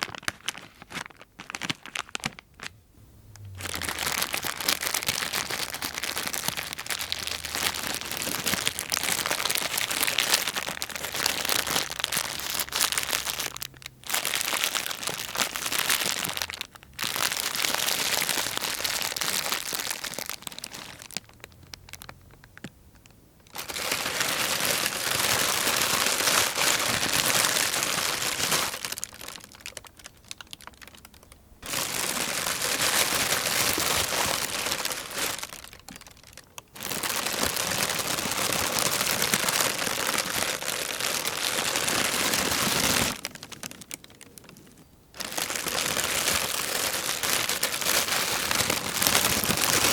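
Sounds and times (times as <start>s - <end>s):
plastic sheeting crinkling: 0.0s - 2.7s, 3.4s - 22.1s, 23.5s - 49.9s.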